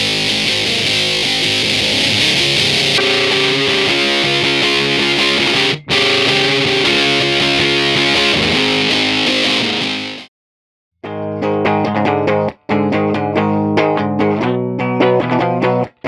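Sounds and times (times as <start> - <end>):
fuzzy electric guitar: 0.0 - 10.3, 11.0 - 16.0.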